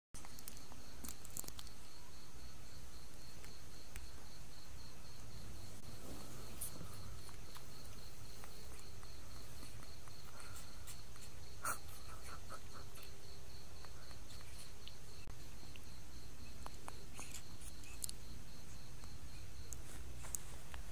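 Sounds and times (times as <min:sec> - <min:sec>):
cricket chirping: 0:00.2 - 0:20.9
steady low hum: 0:00.2 - 0:20.9.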